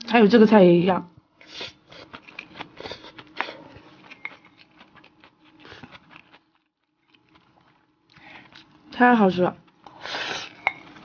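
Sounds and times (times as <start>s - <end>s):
wet chewing sounds: 1.4s - 11.0s.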